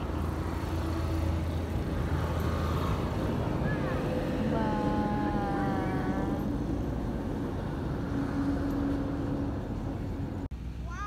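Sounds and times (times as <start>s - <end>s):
low engine hum: 0.0s - 10.8s
road traffic rumble: 0.0s - 11.0s.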